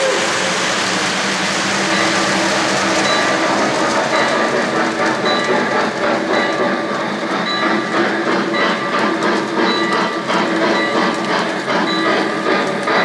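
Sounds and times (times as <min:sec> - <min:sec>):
model train wheels clattering: 0:00.6 - 0:13.0.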